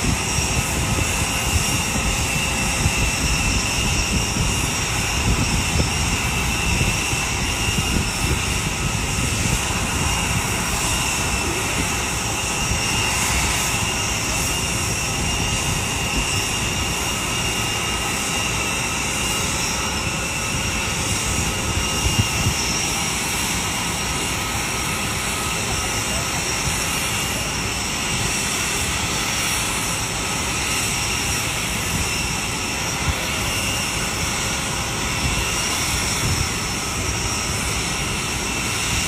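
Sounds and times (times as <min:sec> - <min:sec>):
jet turbine whine: 0:00.0 - 0:39.0.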